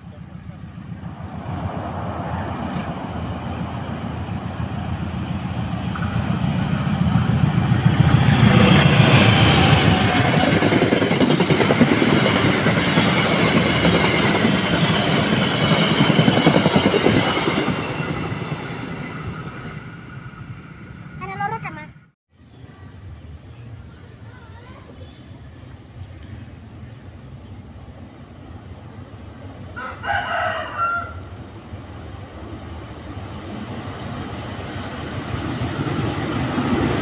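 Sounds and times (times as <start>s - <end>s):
diesel locomotive engines rumbling: 0.0s - 37.0s.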